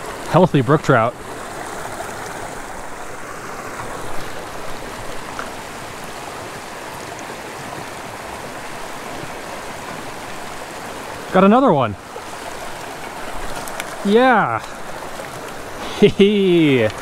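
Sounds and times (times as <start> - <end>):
creek running over stones: 0.0 - 17.0.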